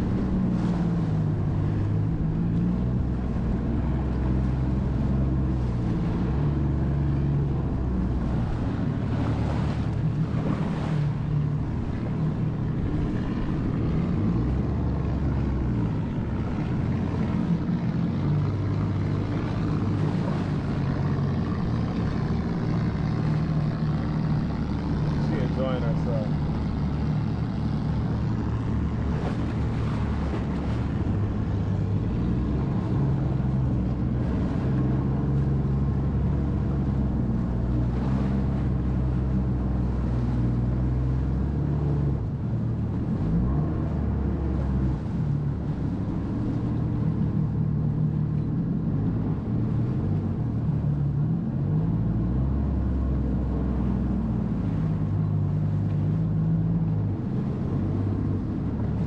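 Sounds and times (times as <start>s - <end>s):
jet ski engine running: 0.0s - 59.0s
water noise: 0.0s - 59.0s.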